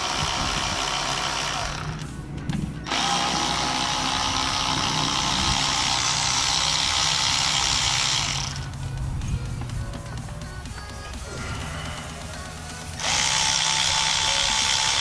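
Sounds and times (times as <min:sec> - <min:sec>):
electric ratchet running: 0:00.0 - 0:15.0.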